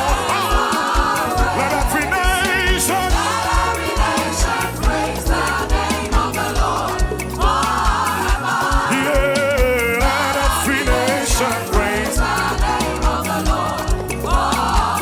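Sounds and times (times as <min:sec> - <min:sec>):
steady drum beat: 0:00.0 - 0:15.0
voices singing gospel: 0:00.0 - 0:15.0.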